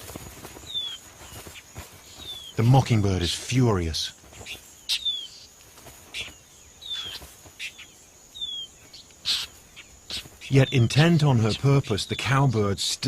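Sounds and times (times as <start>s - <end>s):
bird scolding calls: 0.0s - 12.5s.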